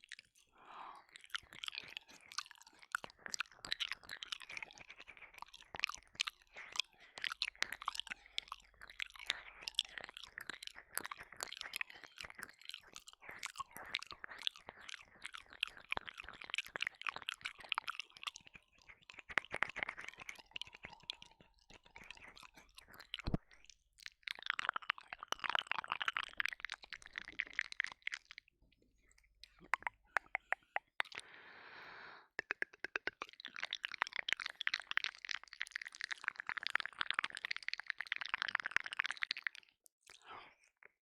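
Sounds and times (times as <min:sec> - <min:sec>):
wet mouth licking sounds: 0:00.0 - 0:31.4, 0:32.3 - 0:41.0.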